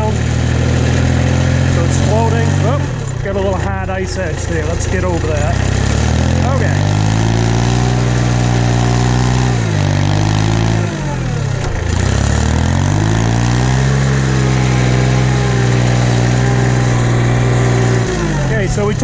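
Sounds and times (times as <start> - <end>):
plow blade pushing snow: 0.0 - 19.0
tractor engine under load: 0.0 - 19.0.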